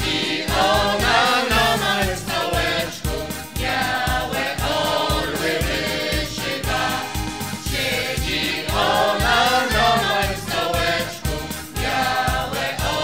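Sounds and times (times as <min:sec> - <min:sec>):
choir singing: 0:00.0 - 0:13.0
instrumental backing with steady beat: 0:00.0 - 0:13.0.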